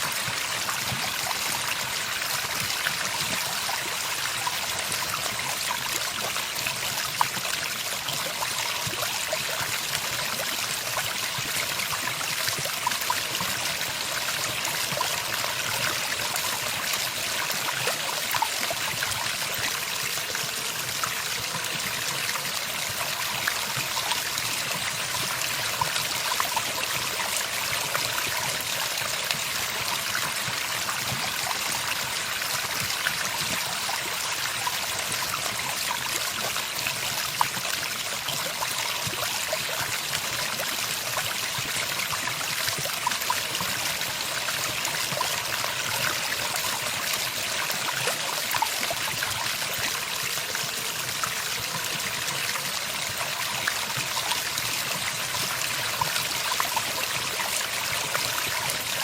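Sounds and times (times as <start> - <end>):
running water stream: 0.0 - 59.0.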